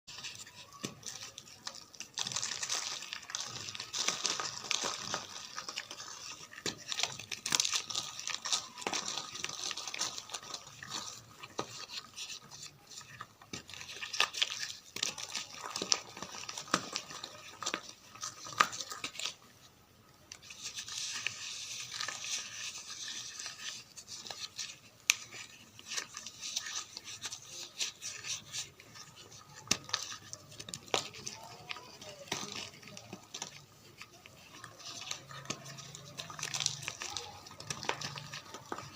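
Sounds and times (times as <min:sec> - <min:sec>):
chalk being crumbled: 0:00.1 - 0:19.6, 0:20.3 - 0:38.9.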